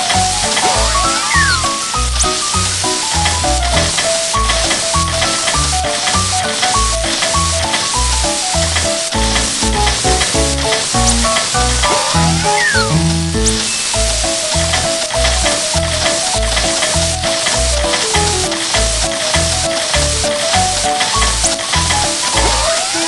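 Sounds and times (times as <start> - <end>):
upbeat background music: 0.0 - 23.0
food sizzling in a pan: 0.2 - 23.0.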